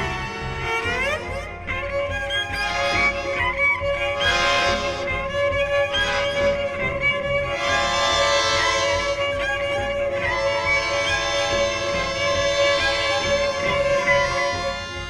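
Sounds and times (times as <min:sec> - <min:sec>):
bowed cello melody: 0:00.0 - 0:15.0.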